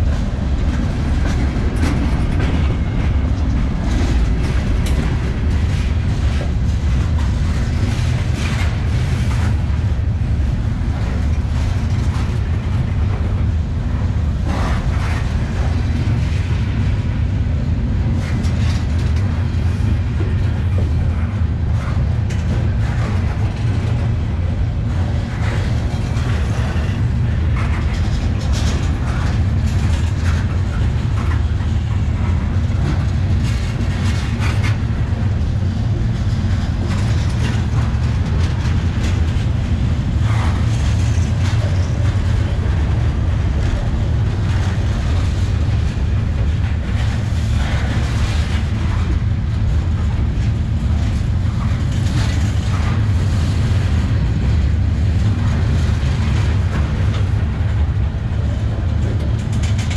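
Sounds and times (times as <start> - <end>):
clanking wheels and couplings: 0.0 - 59.9
freight train wheels rumbling: 0.0 - 59.9.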